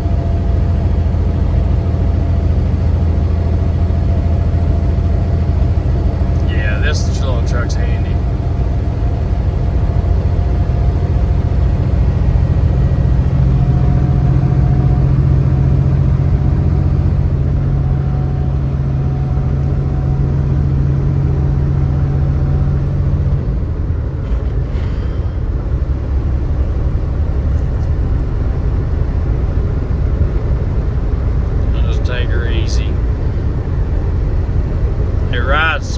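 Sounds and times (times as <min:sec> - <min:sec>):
truck diesel engine droning: 0:00.0 - 0:35.9.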